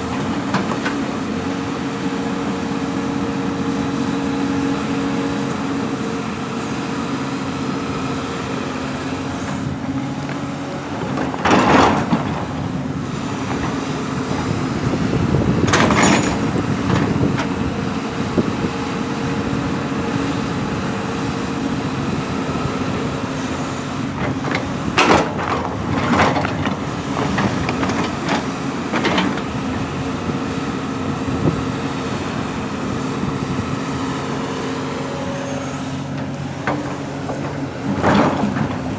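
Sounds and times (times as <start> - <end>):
diesel construction machine engine: 0.0 - 38.9.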